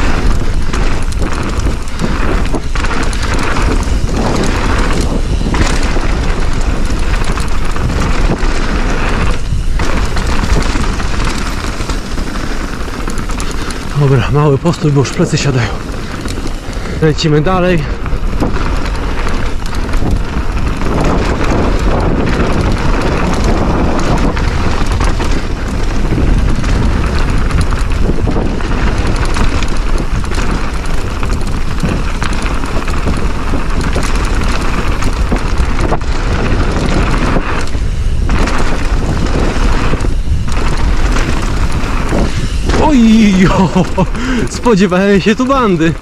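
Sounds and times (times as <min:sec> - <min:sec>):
bike tyre rumble and rattle: 0:00.0 - 0:46.0
wind buffeting on microphone: 0:00.0 - 0:46.0.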